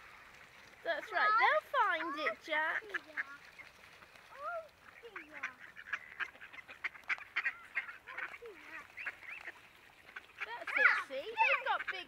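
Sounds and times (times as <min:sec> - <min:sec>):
ducks quacking: 0:00.9 - 0:12.0.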